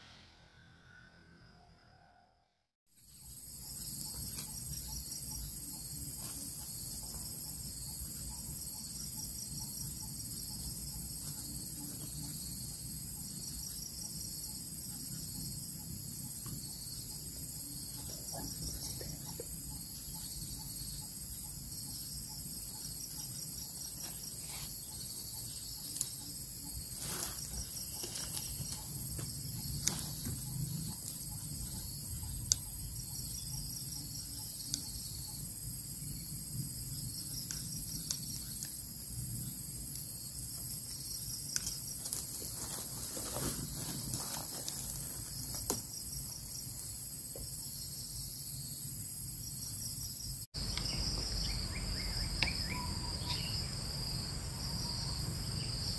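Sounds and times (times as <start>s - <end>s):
crickets and insects chirping: 2.9s - 55.9s.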